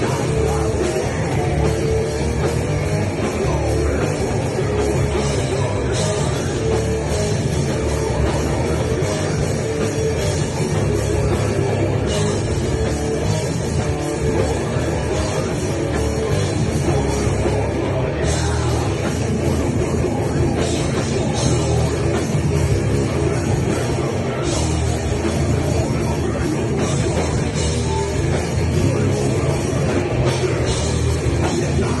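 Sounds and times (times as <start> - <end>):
drum kit: 0.0 - 32.0
heavy rock band playing: 0.0 - 32.0.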